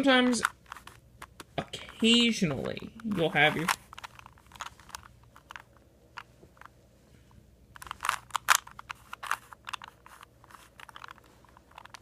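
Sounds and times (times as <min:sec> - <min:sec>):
plastic puzzle cube clicking: 0:00.2 - 0:06.7, 0:07.8 - 0:12.0.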